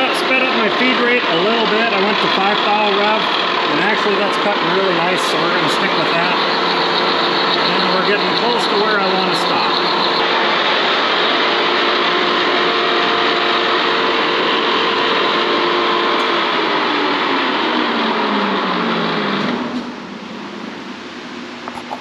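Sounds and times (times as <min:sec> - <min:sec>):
boring mill whining: 0:00.0 - 0:22.0.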